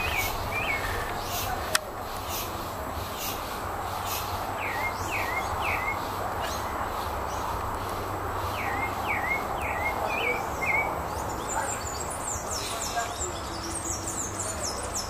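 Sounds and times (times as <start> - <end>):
steady background hiss: 0.0 - 15.0
thrush calling: 0.0 - 15.0.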